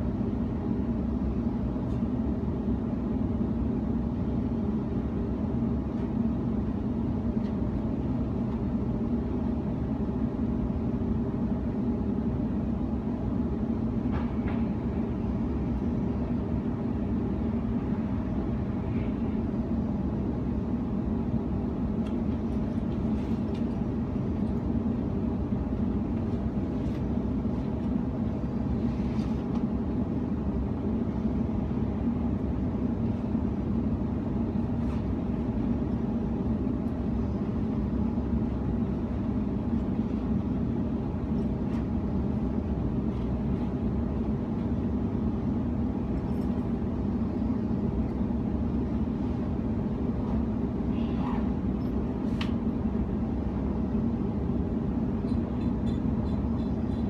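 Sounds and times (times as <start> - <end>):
train carriage rumble and hum: 0.0 - 57.0.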